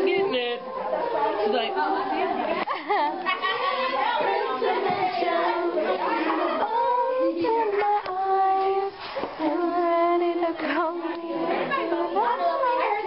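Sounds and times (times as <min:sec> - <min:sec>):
people talking: 0:00.0 - 0:13.0
young people singing: 0:00.0 - 0:13.0.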